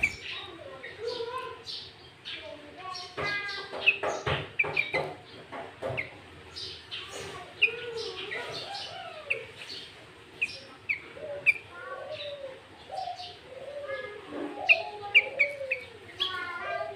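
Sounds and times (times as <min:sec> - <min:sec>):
bulbul singing: 0:00.0 - 0:16.9.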